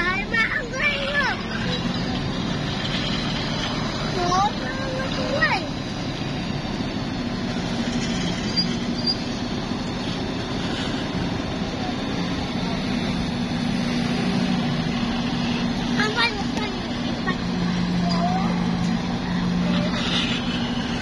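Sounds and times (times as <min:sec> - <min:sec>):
engine humming: 0:00.0 - 0:21.0
outdoor noise: 0:00.0 - 0:21.0.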